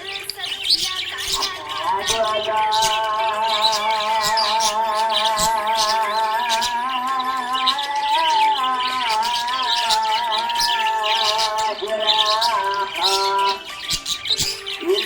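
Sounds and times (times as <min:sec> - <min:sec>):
budgerigars chirping and squawking: 0:00.0 - 0:15.0
song with wavering melody: 0:00.0 - 0:15.0.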